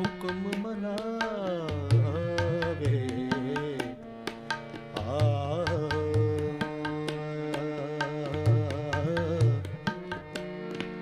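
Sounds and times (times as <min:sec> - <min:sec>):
tabla rhythm: 0:00.0 - 0:11.0.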